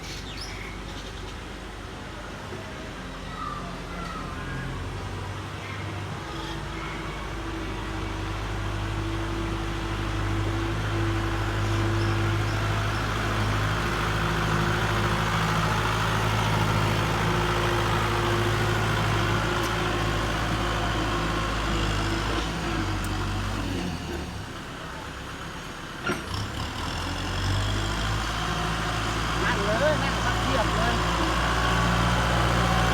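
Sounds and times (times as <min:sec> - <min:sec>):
tractor diesel engine running: 0:06.0 - 0:32.9.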